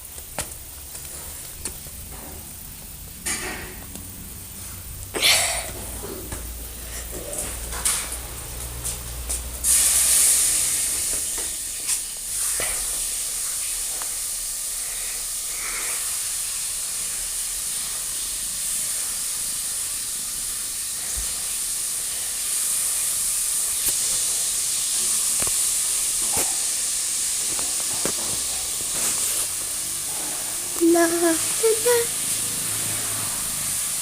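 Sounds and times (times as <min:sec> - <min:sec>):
steady high hiss: 0:00.0 - 0:34.0.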